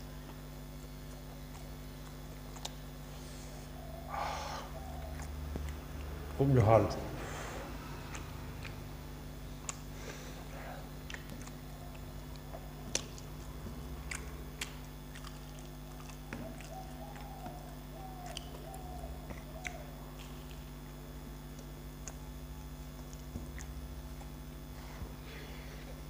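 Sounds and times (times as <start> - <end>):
low hum: 0.0 - 26.0
person chewing food: 0.1 - 4.0, 4.6 - 6.3, 7.6 - 26.0.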